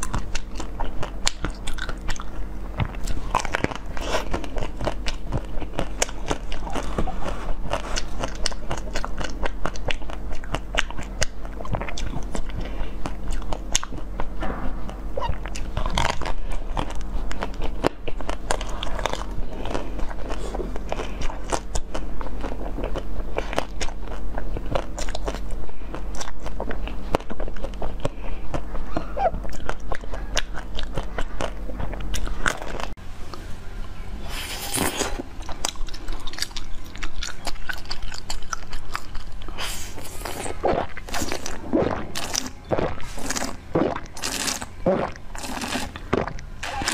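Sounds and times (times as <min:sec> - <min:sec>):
wet chewing mouth sounds: 0:00.0 - 0:33.4, 0:34.2 - 0:46.9
steady low hum: 0:00.0 - 0:46.9.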